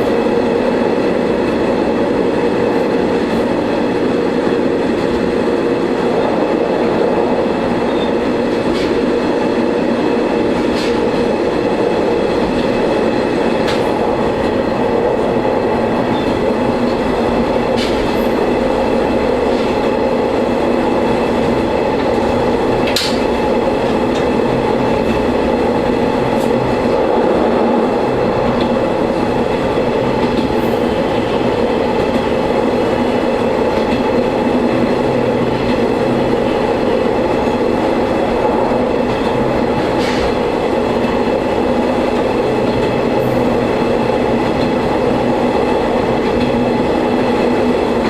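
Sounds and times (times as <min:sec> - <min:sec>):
railcar engine hum: 0:00.0 - 0:48.0
wheels rumbling on rail: 0:00.0 - 0:48.0.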